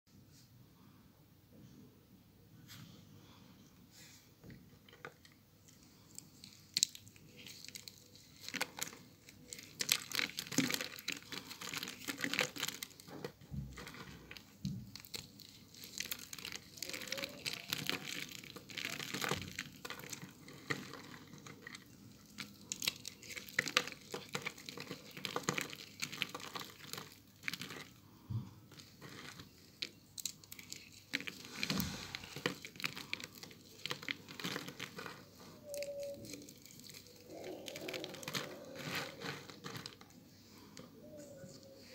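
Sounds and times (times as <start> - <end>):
soap shavings crackling and crunching: 4.7 - 41.9.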